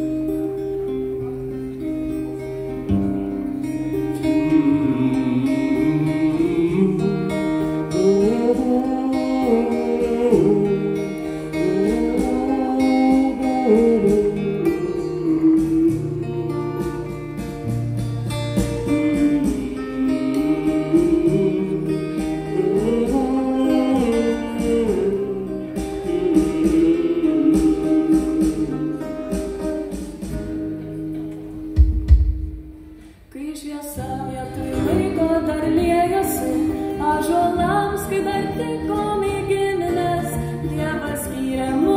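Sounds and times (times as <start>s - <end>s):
guitar accompaniment: 0.0s - 41.9s
person singing: 4.0s - 17.8s, 18.4s - 30.0s, 33.3s - 41.9s.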